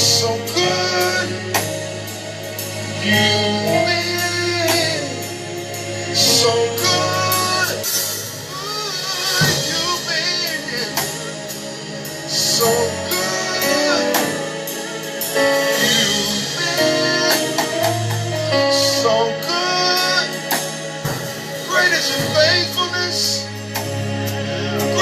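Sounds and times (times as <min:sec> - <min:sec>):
drum kit: 0:00.0 - 0:25.0
gospel singing over instruments: 0:00.0 - 0:25.0.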